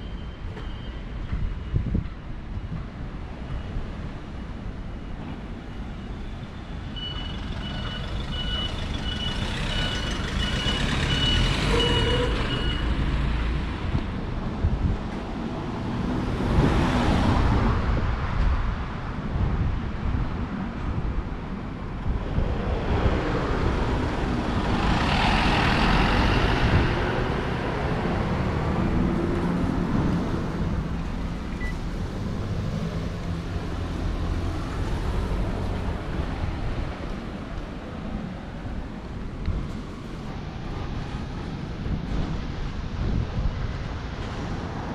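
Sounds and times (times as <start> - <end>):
steady low traffic rumble: 0.0 - 44.9
vehicles passing close by: 6.4 - 44.9.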